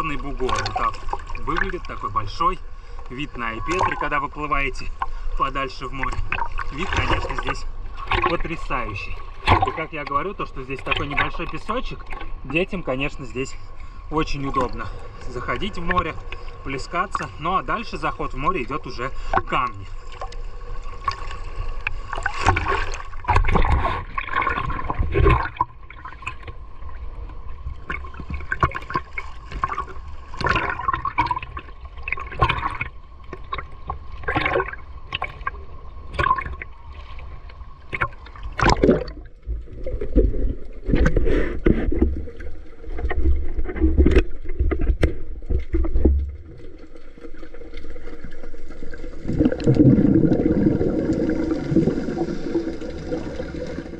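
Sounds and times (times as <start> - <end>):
water splashing around swimmer: 0.0 - 53.9.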